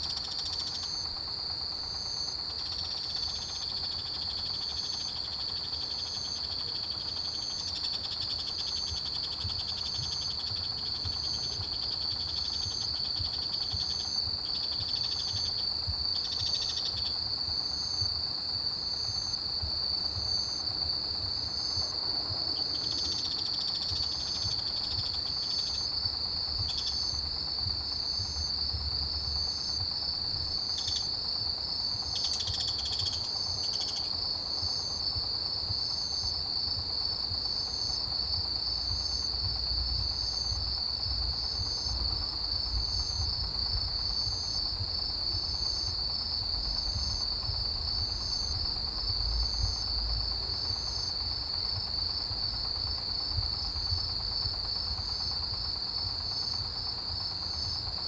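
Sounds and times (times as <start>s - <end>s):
insect chirping: 0.0s - 58.0s
insects trilling in chorus: 0.0s - 58.0s.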